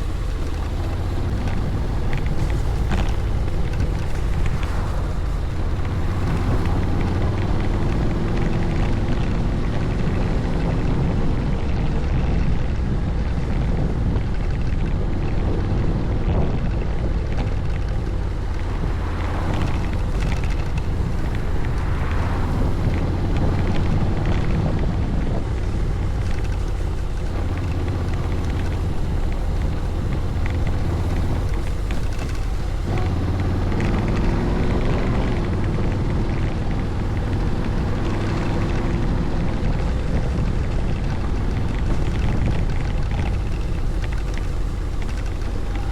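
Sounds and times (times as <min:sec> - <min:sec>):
scooter engine running: 0:00.0 - 0:45.9
wind noise on microphone: 0:00.0 - 0:45.9.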